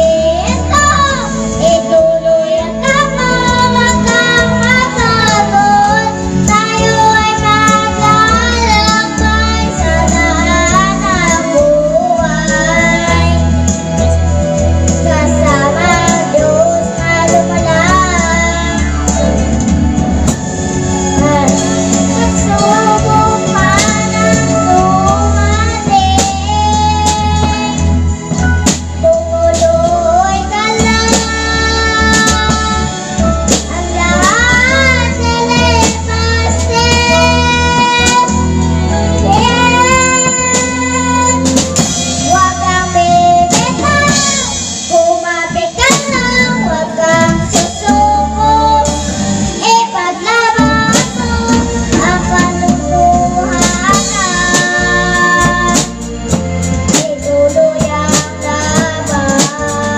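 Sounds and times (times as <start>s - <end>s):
girl singing into microphone: 0.0s - 19.7s, 21.0s - 59.9s.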